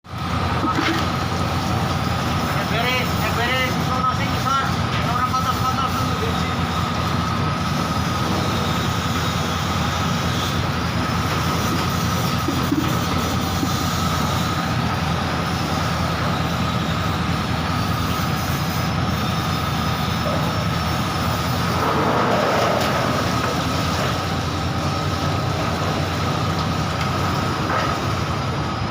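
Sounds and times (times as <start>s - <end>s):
washing machine motor rumble: 0.1s - 28.9s
high gearbox whine: 0.4s - 28.9s.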